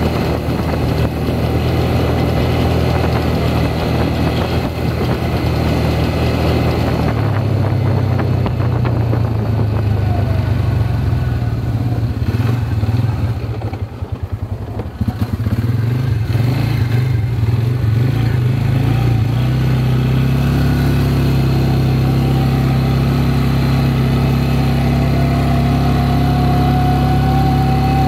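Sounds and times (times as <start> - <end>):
atv engine running: 0.0 - 28.0
thin engine whine: 0.0 - 28.0.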